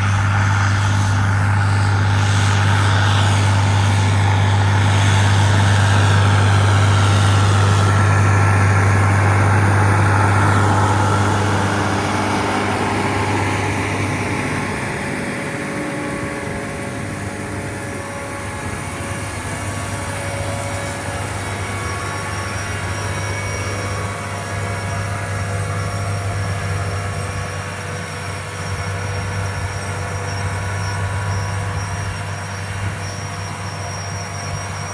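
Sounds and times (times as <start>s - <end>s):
thin high whine: 0.0s - 34.9s
tractor diesel engine rumbling: 0.0s - 34.9s.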